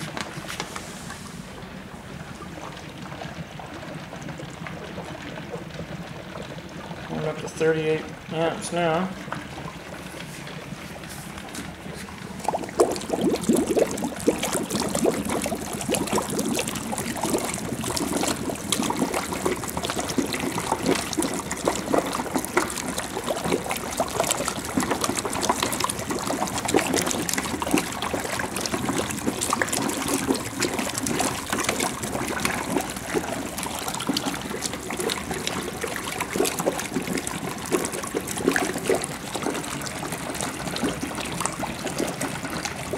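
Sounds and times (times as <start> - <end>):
gas bubbling under water: 0.0 - 42.9.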